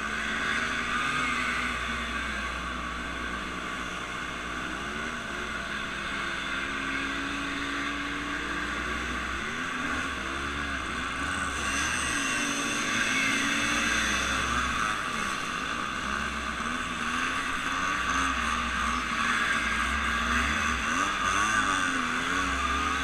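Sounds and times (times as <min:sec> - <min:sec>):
engine running: 0:00.0 - 0:23.0
steady rushing noise: 0:00.0 - 0:23.0.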